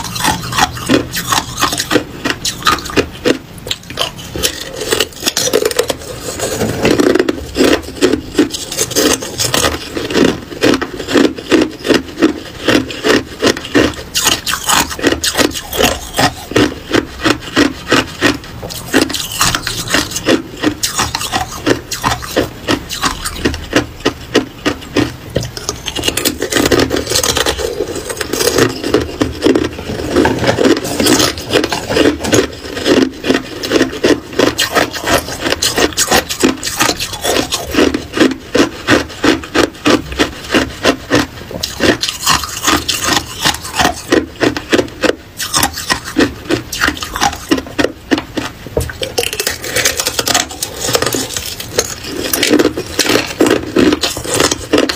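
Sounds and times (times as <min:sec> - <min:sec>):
ice crunching while chewed: 0:00.0 - 0:54.9.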